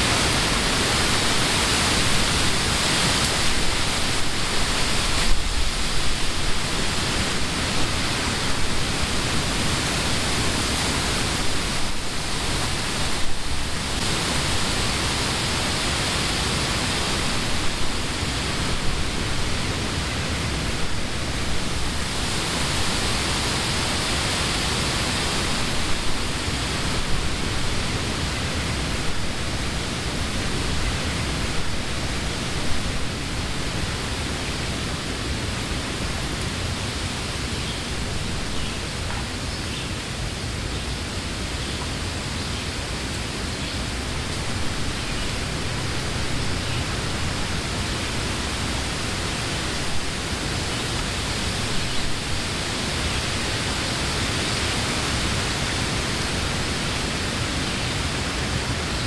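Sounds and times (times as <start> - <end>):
wind through trees: 0.0 - 59.0.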